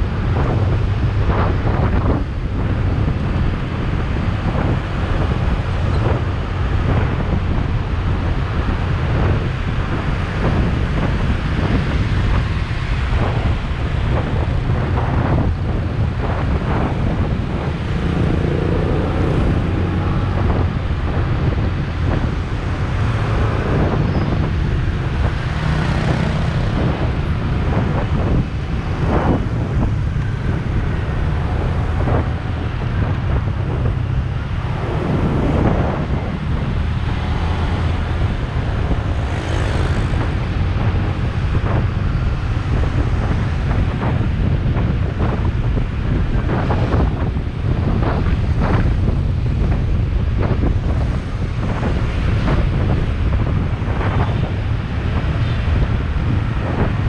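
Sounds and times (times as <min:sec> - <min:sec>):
motorbike running: 0:00.0 - 0:57.0
road traffic: 0:00.0 - 0:57.0
wind rumbling on microphone: 0:00.0 - 0:57.0.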